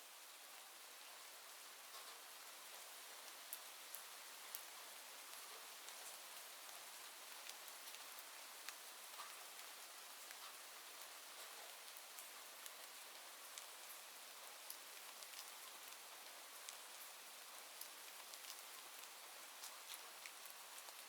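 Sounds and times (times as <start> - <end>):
soft rain hiss: 0.0 - 21.0.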